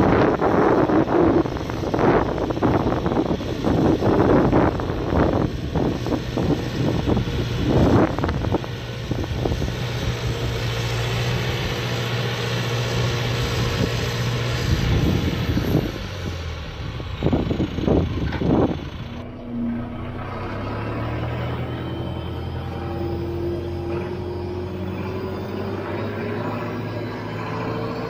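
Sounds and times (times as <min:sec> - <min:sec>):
tractor diesel engine running: 0:00.0 - 0:28.0
wind buffeting microphone: 0:00.0 - 0:28.0.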